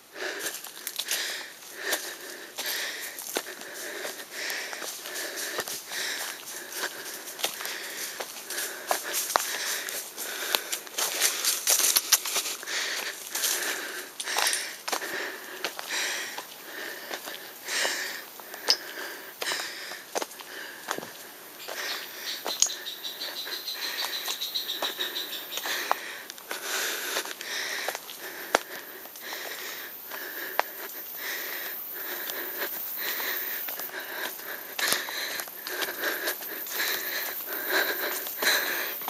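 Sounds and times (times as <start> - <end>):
person breathing hard: 0.0 - 39.0
footsteps and twigs clicking: 0.2 - 39.0.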